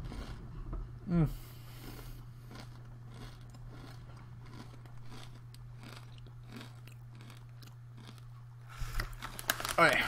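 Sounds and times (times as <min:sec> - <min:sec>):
potato crisps being chewed: 0:00.0 - 0:00.5, 0:01.4 - 0:10.0
steady low hum: 0:00.0 - 0:10.0.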